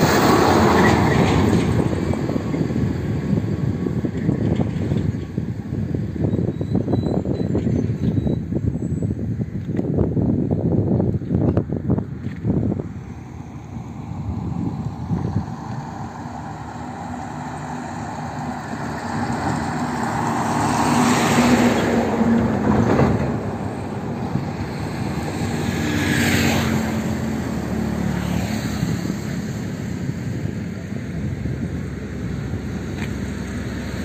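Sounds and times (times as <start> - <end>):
traffic passing on bridge: 0.0 - 34.0.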